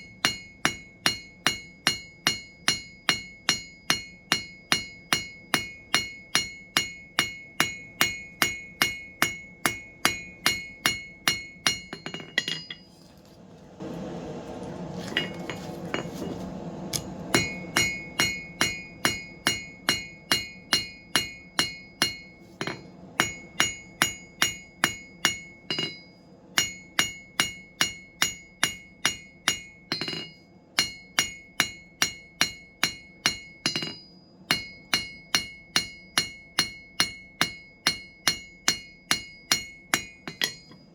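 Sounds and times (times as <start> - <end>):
hammer striking steel on anvil: 0.0 - 12.9, 16.9 - 40.9.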